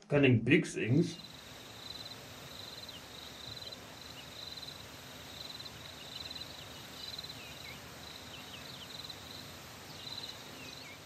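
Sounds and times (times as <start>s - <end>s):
steady hiss: 0.2s - 11.0s
insects trilling: 0.9s - 11.0s.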